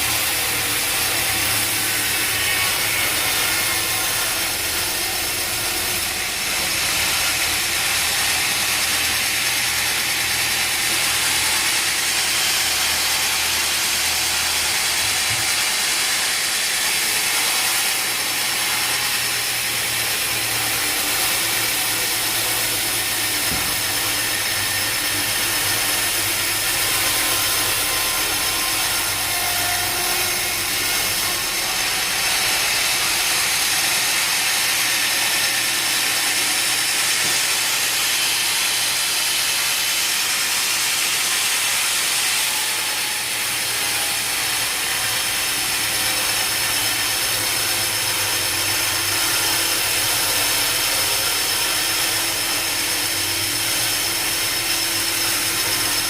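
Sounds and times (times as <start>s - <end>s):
sawmill machinery hiss: 0.0s - 56.0s.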